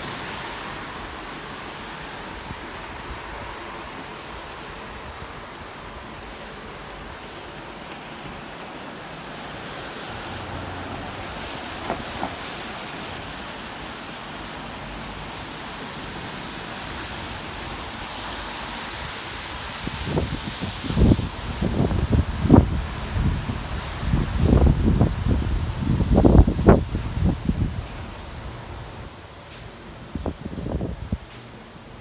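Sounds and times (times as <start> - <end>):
rain hiss: 0.0 - 32.0
traffic on wet street: 0.0 - 32.0.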